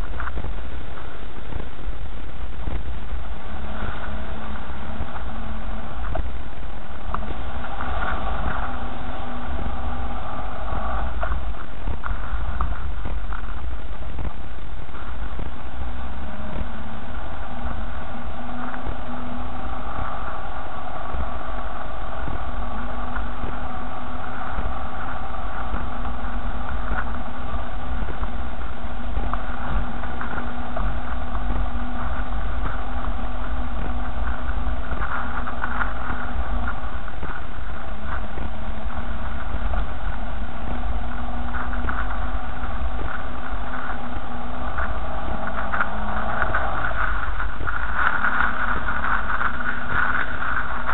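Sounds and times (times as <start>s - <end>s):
car engine hum: 0.0s - 50.9s
low road rumble: 0.0s - 50.9s.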